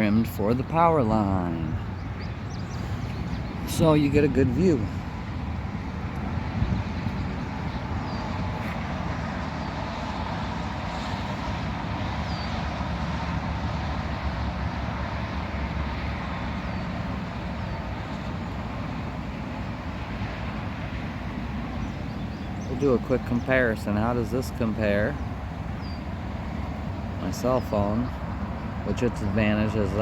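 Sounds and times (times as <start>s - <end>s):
churning low rumble: 0.0s - 30.0s.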